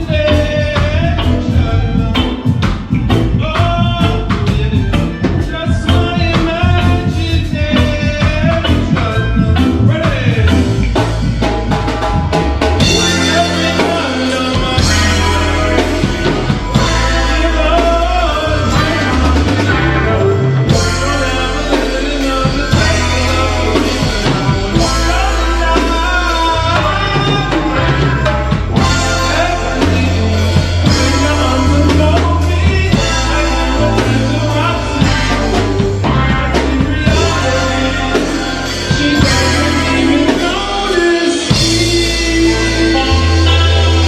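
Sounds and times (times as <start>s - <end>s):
drum kit: 0.0s - 44.0s
heavy bass line: 0.0s - 44.0s
reggae band playing live: 0.0s - 44.0s.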